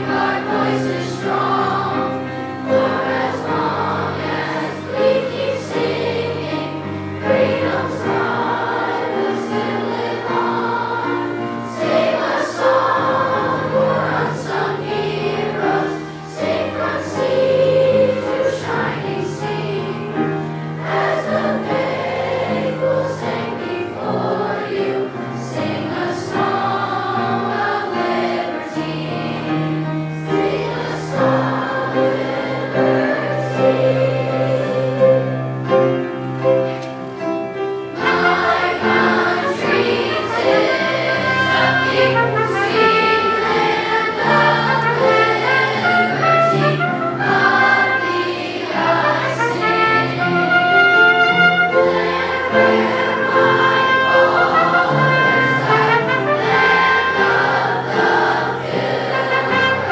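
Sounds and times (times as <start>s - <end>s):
children's choir singing: 0.0s - 59.9s
instrumental accompaniment: 0.0s - 59.9s.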